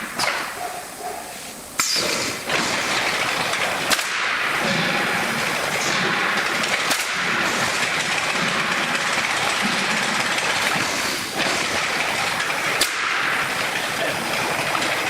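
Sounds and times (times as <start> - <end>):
nailing machine running: 0.0 - 15.0
sharp cracks: 0.0 - 15.0.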